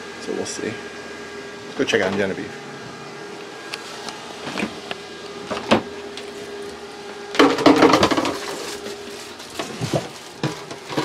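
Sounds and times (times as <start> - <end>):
refrigerator fan humming: 0.0 - 11.0.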